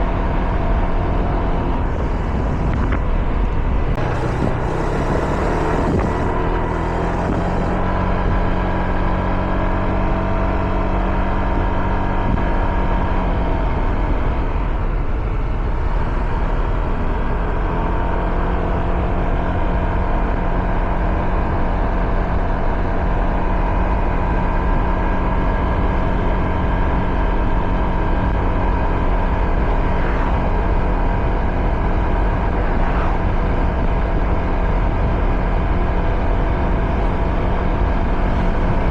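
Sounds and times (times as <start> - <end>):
motorcycle engine cruising: 0.0 - 38.9
wind rumble on microphone: 0.0 - 38.9.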